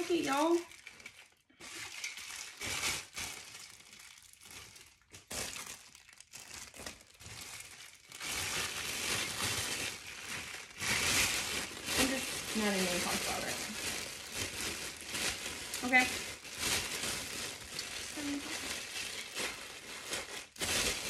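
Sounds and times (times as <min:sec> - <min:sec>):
plastic wrapping crinkling: 0:00.0 - 0:21.0.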